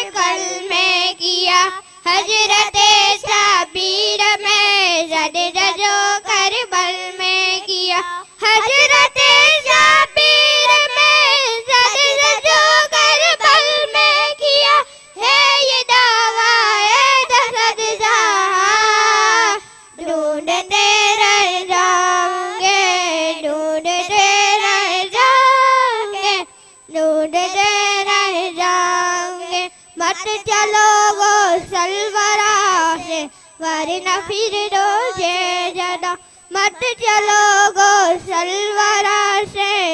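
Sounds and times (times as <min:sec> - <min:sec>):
girl singing devotional song: 0:00.0 - 0:39.9.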